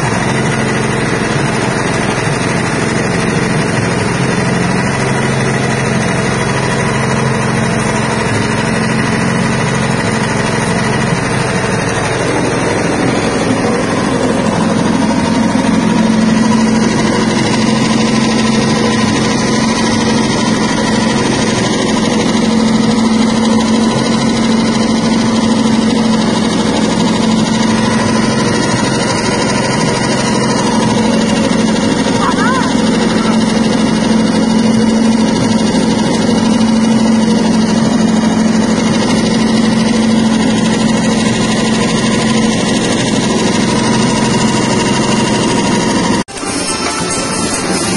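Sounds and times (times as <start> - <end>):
machine motor hum: 0.0 - 47.9.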